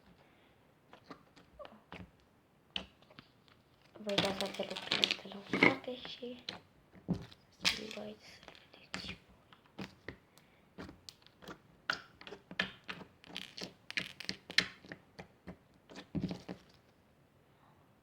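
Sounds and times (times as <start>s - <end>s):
small objects clicking and crinkling: 0.9s - 16.9s.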